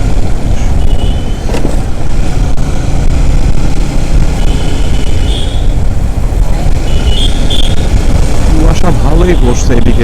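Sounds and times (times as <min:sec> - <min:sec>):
motorcycle engine: 0:00.0 - 0:09.5
road noise: 0:00.0 - 0:10.0
wind rumble on microphone: 0:00.0 - 0:10.0.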